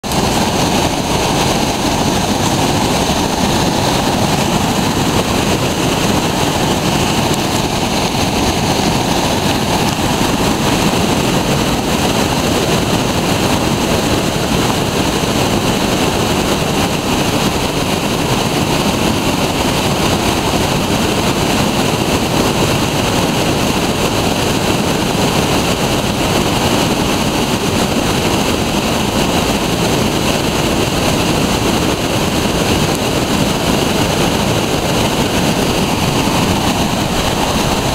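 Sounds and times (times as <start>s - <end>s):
rapids roaring over boulders: 0.0s - 37.9s.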